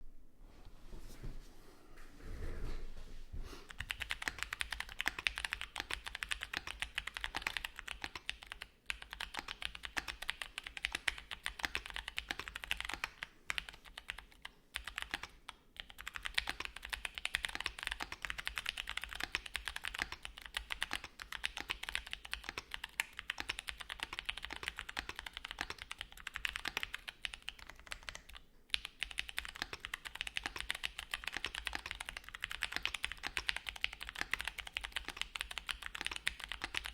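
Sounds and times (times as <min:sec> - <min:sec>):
mechanical keyboard typing: 0:03.7 - 0:36.9.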